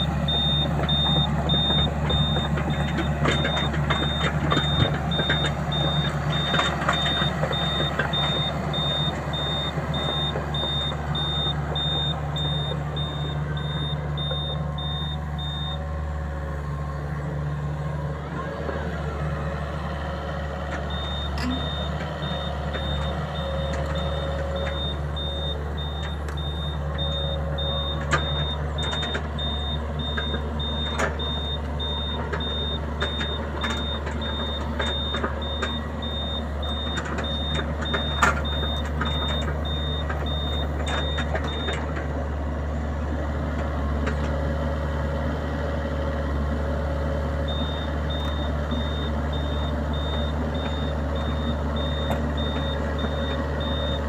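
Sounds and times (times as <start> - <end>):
backup alarm beeping: 0.0 - 15.8, 20.9 - 41.8, 47.5 - 54.0
diesel engine running: 0.0 - 54.0.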